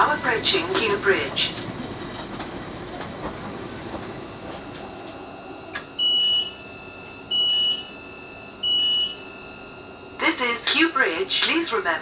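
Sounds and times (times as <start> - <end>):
electric train running: 0.0 - 11.7.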